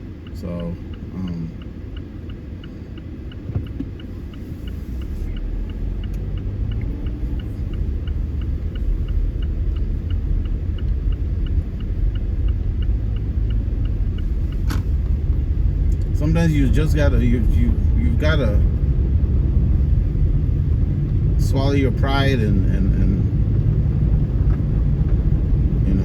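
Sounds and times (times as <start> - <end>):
car road and engine rumble: 0.0 - 26.0
turn signal ticking: 0.0 - 26.0.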